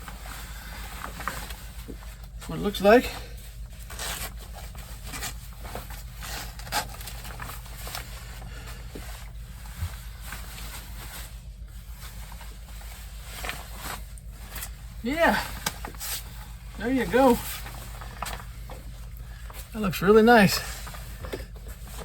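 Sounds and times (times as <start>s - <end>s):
jacket fabric rustling: 0.0s - 22.0s
steady low hum: 0.0s - 22.0s.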